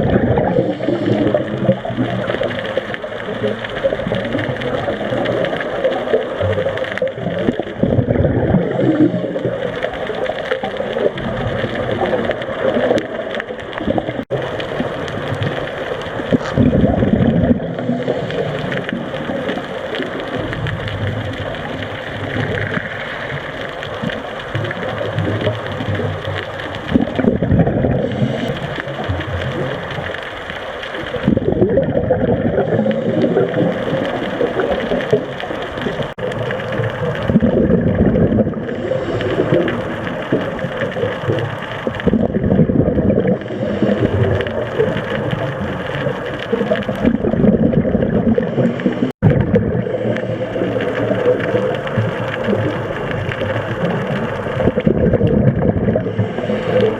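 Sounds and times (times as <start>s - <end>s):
exhaled bubbles gurgling underwater: 0.0s - 56.9s.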